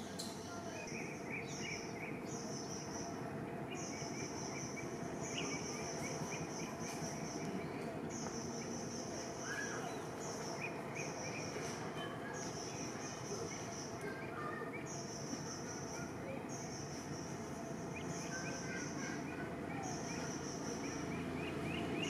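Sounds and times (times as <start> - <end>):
bird chirps: 0.0 - 22.0
steady low background noise: 0.0 - 22.0.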